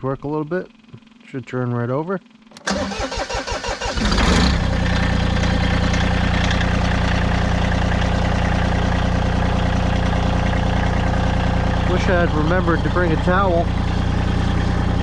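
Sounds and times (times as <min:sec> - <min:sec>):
diesel engine idling: 0:02.6 - 0:15.0
tractor diesel engine starting: 0:02.6 - 0:15.0.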